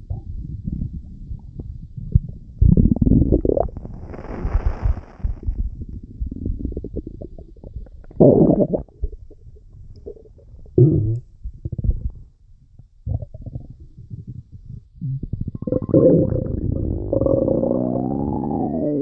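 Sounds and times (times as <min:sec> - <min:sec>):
stomach rumbling: 0:00.0 - 0:19.0.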